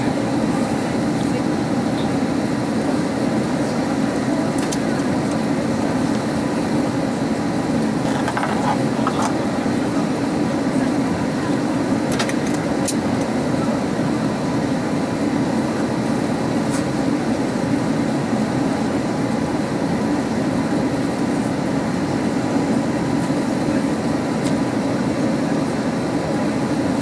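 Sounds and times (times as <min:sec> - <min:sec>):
airplane cabin airflow and engines: 0:00.0 - 0:27.0.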